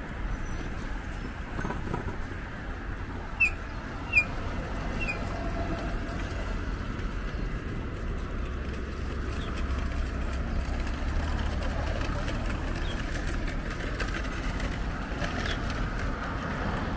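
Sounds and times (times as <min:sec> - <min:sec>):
low rumble of traffic: 0:00.0 - 0:16.9.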